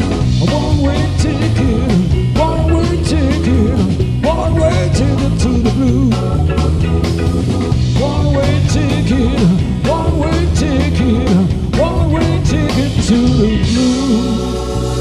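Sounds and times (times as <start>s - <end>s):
bass and drums: 0.0s - 15.0s
organ chord: 0.0s - 15.0s.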